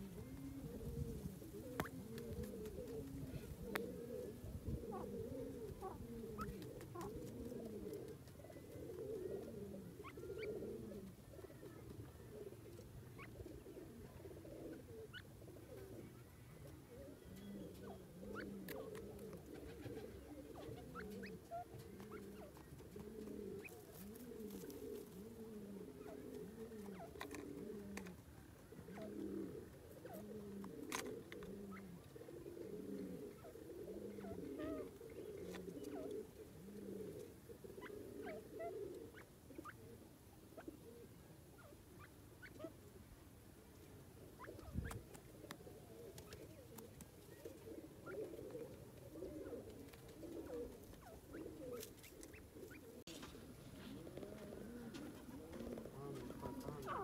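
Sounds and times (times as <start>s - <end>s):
bird cooing softly: 0.0s - 57.0s.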